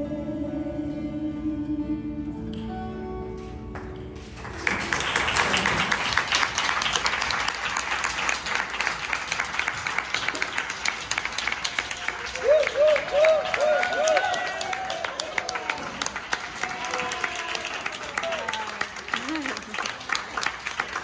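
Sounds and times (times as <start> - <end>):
audience applauding: 3.7 - 21.0.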